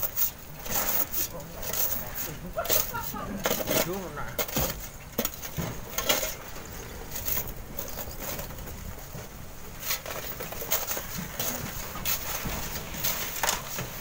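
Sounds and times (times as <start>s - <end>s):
hoe scraping sand and stones: 0.0s - 14.0s.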